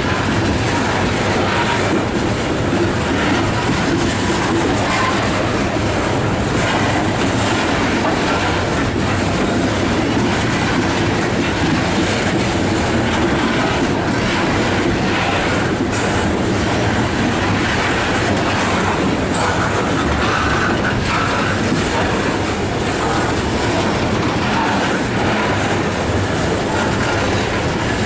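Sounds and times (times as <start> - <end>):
steel train wheels on rail: 0.0 - 28.0.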